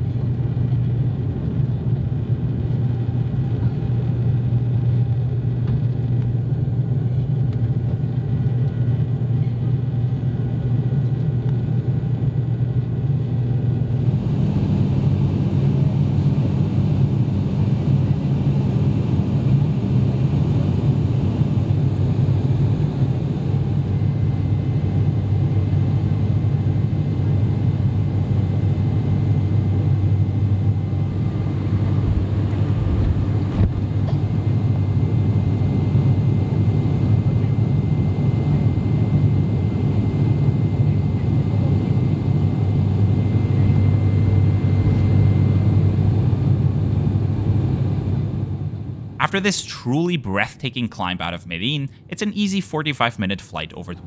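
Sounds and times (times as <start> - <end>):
turboprop cabin drone: 0.0 - 50.5.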